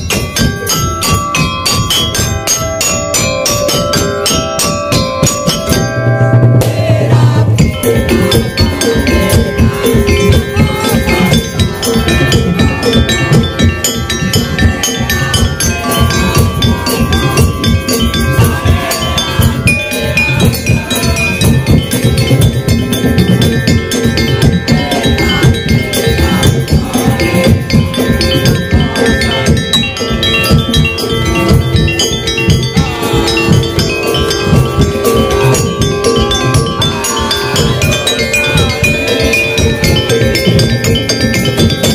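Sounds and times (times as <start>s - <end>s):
held melody line: 0.0s - 41.9s
percussion ensemble playing: 0.0s - 41.9s.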